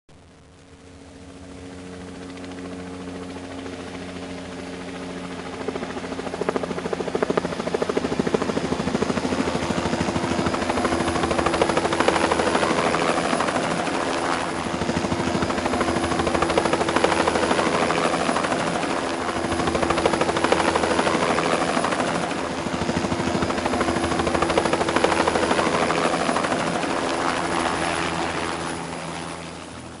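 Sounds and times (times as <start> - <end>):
helicopter rotor chopping: 0.3 - 30.0.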